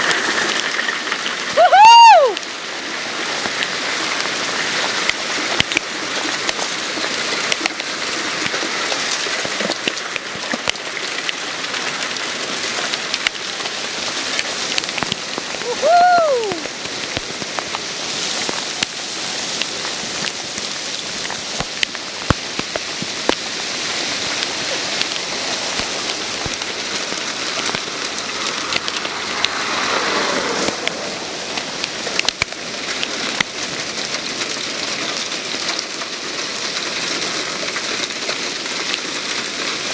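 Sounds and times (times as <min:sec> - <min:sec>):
hail hitting pavement and car: 0:00.0 - 0:39.9.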